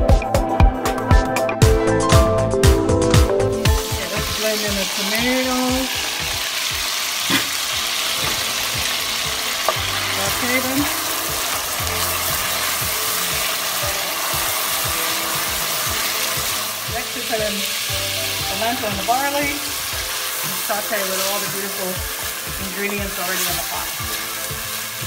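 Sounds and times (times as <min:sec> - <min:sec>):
vegetables sizzling in oil: 0:03.6 - 0:25.0.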